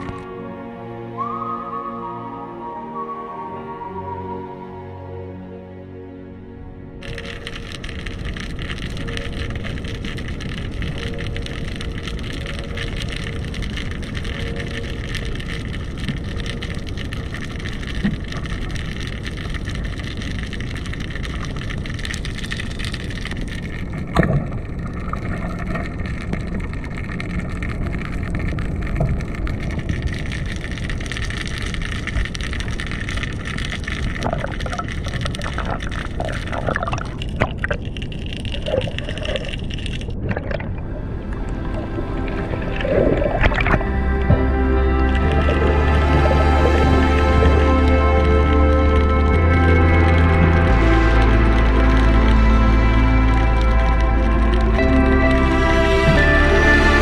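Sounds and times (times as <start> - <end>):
bubbling: 0.0 - 0.3, 7.0 - 57.0
underwater rumble and hiss: 0.0 - 57.0.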